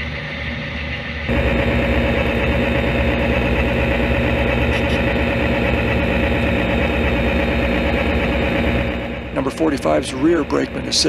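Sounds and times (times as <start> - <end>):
locomotive engine rumbling: 1.3 - 11.0.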